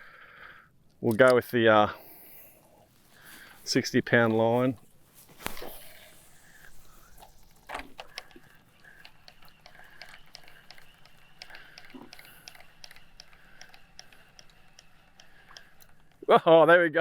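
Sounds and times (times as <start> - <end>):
faint handling clicks: 0.8 - 1.7, 2.6 - 16.3.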